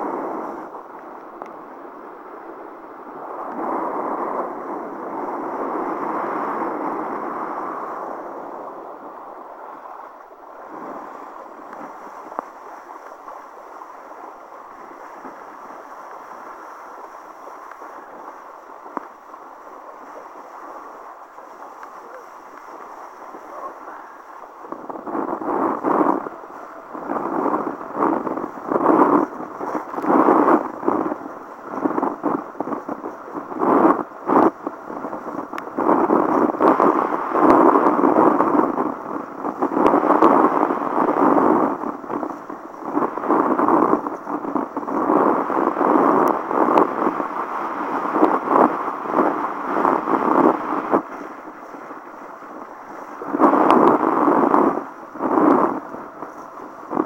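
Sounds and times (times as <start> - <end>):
rush of wind and water: 0.0 - 57.0.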